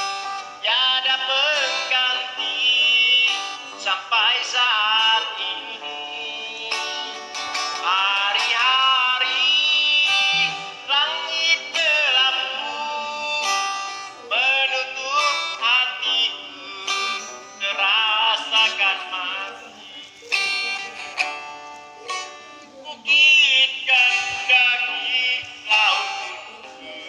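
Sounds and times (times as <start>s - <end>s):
person singing: 0.0s - 27.0s
plucked string accompaniment: 0.0s - 27.0s.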